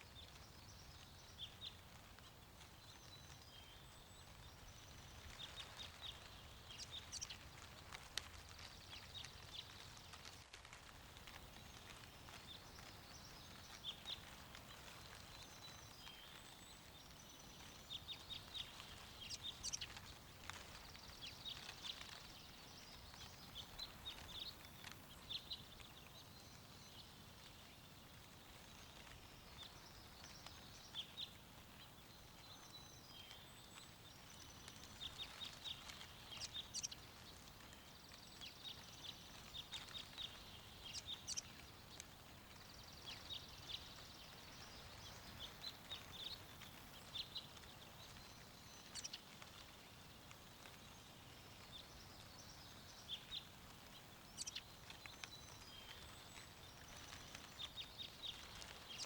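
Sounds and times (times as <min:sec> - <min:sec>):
small birds chirping: 0:00.0 - 0:59.0
soft steady wind: 0:00.0 - 0:59.0.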